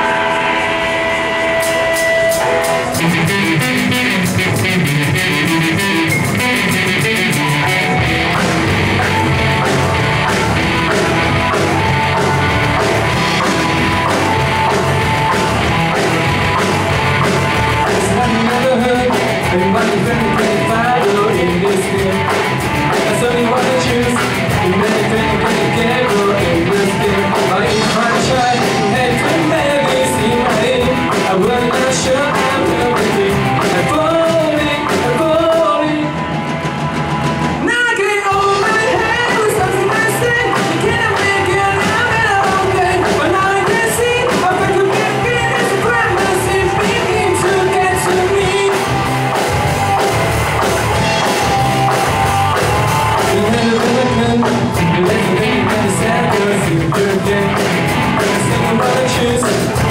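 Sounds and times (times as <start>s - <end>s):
person singing: 0.0s - 36.4s, 37.6s - 49.4s, 51.2s - 59.9s
live rock band playing: 0.0s - 59.9s.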